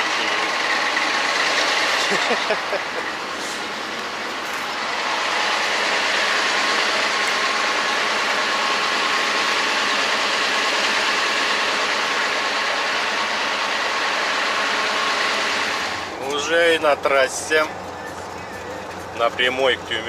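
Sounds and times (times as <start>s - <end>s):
truck road and engine noise: 0.0s - 20.0s.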